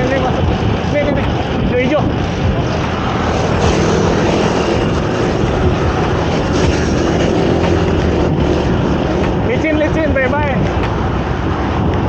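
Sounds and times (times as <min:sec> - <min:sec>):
low engine drone: 0:00.0 - 0:12.0
road traffic noise: 0:00.0 - 0:12.0
rushing wind: 0:00.0 - 0:12.0.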